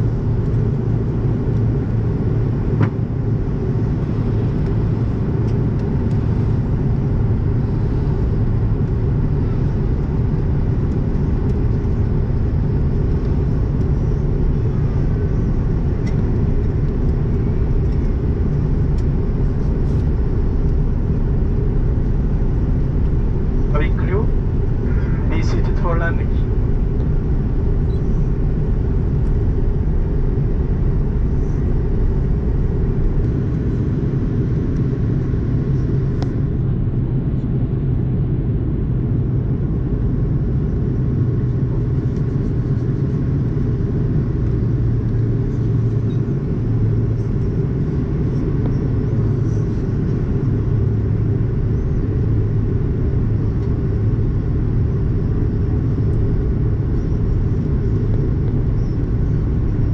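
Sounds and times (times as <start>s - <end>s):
airliner engines rumbling: 0.0s - 59.9s.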